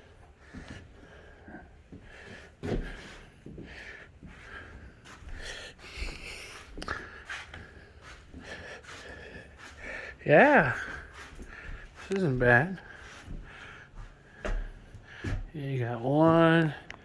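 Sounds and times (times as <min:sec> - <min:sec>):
footsteps on bare floor: 0:00.0 - 0:16.9.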